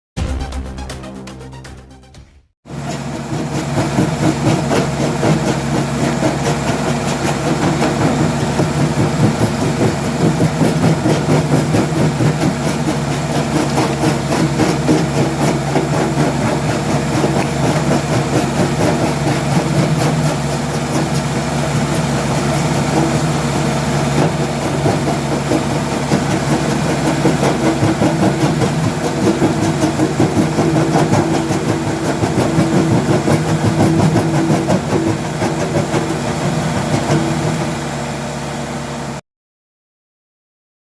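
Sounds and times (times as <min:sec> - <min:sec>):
diesel engine throbbing: 0:00.2 - 0:39.2.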